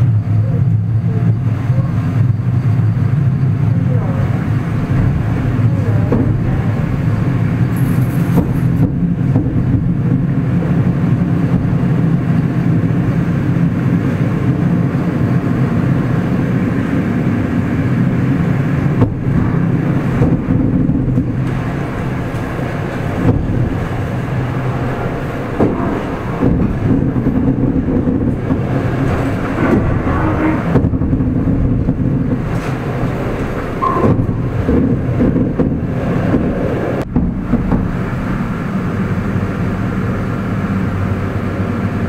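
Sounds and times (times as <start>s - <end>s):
train rumble inside carriage: 0.0s - 42.0s.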